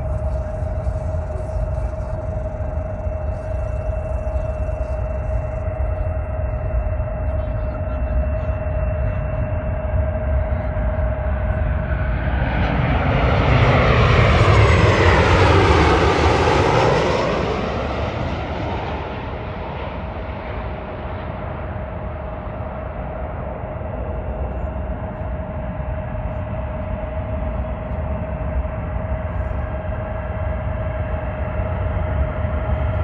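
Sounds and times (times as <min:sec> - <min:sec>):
jet engines passing overhead: 0:00.0 - 0:33.0.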